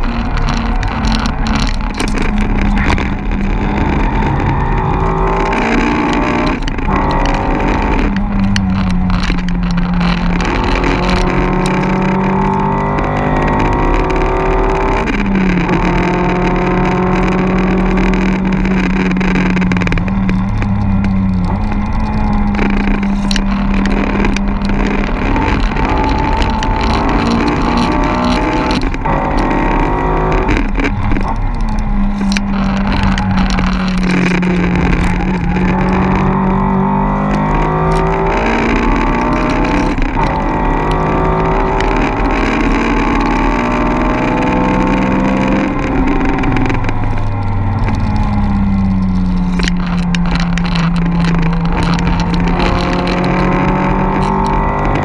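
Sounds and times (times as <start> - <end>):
car engine accelerating through gears: 0.0 - 55.0
road and wind noise: 0.0 - 55.0.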